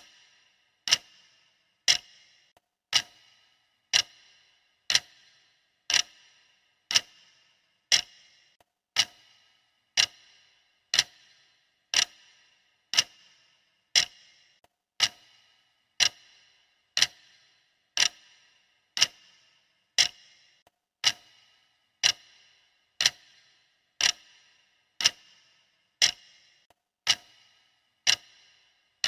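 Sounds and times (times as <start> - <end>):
clock ticking: 0.0 - 29.0.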